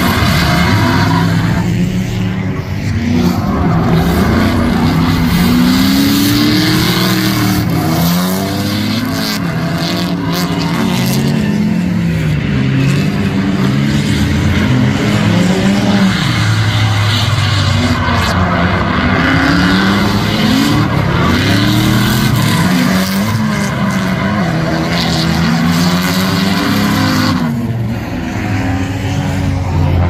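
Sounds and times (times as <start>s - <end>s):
tyres squealing on asphalt: 0.0s - 12.2s, 14.2s - 30.0s
car engines revving: 0.0s - 30.0s.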